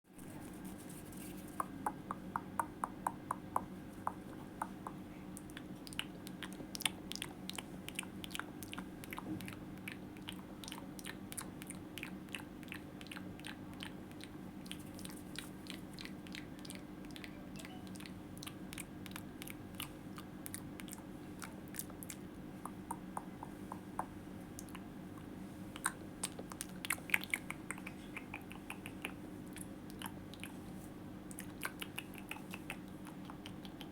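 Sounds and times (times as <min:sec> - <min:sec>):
low steady hum: 0:00.1 - 0:33.9
wet mouth clicks and smacks: 0:01.5 - 0:17.4, 0:18.0 - 0:30.6, 0:31.2 - 0:33.9.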